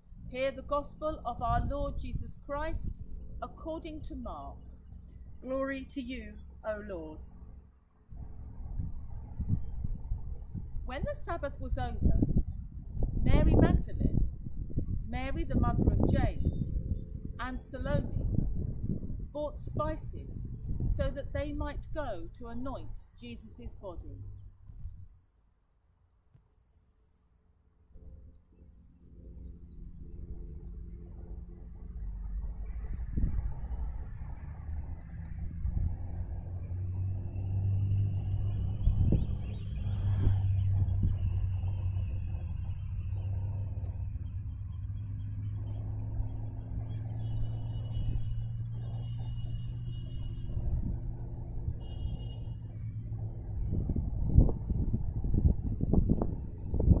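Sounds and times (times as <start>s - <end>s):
low engine drone: 0.0s - 25.2s, 27.8s - 57.0s
songbirds chirping: 0.0s - 57.0s.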